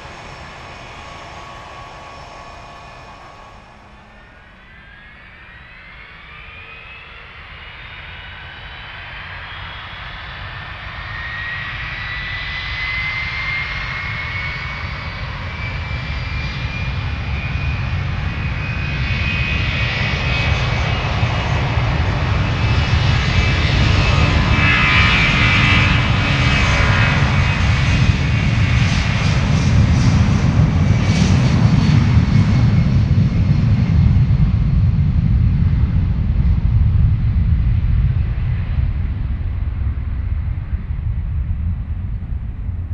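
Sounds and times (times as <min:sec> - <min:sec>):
jet engine fan whine: 0:00.0 - 0:42.9
jet engine roar and rumble: 0:00.0 - 0:42.9.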